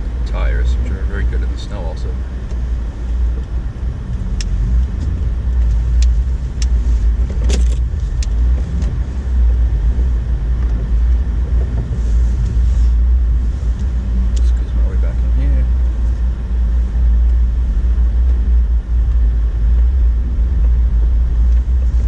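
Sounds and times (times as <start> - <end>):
vehicle road rumble: 0.0 - 22.0.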